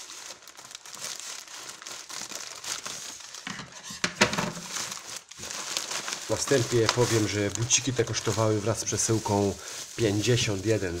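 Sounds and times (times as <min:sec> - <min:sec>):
plastic mailer bag crinkling: 0:00.0 - 0:11.0.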